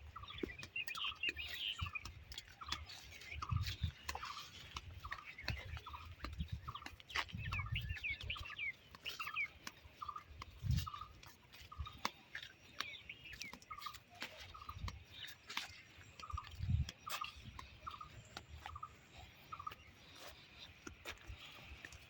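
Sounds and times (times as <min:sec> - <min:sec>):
birds calling: 0:00.0 - 0:22.0
quick bird chirps: 0:00.0 - 0:22.0.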